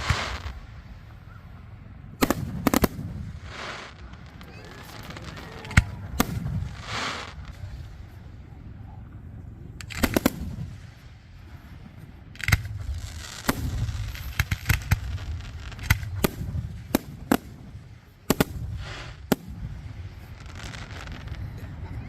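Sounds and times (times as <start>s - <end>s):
continuous low rumble: 0.0s - 22.0s
fireworks exploding: 0.0s - 22.0s.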